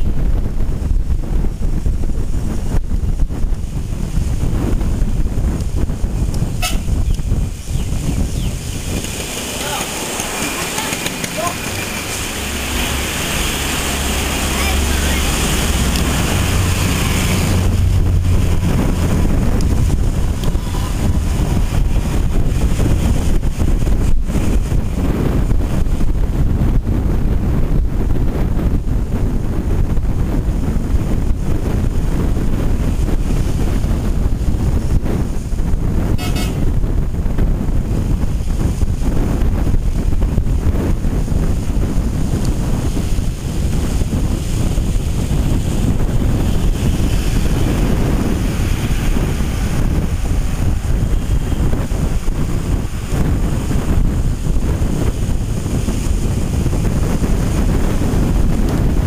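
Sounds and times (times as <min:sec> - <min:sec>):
bus engine and tyres rumbling: 0:00.0 - 0:59.0
wind buffeting microphone: 0:00.0 - 0:59.0.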